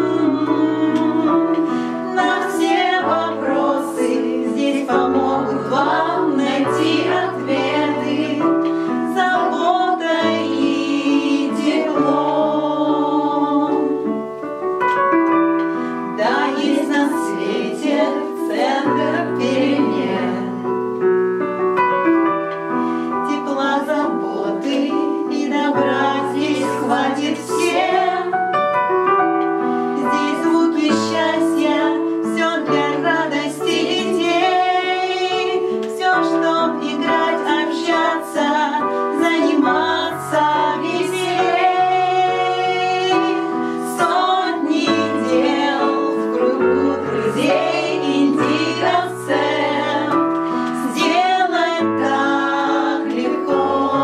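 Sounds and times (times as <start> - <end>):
women singing together: 0.0 - 20.8, 23.2 - 54.0
piano playing chords: 0.0 - 54.0.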